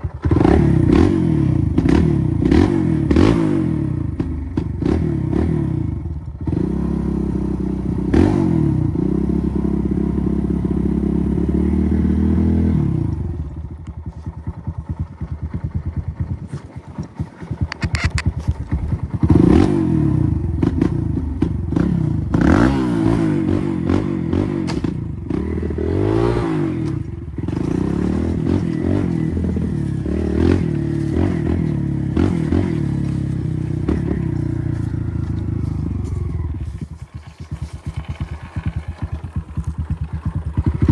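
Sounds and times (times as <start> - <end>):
dirt bike engine revving: 0.1 - 13.1, 16.4 - 40.9.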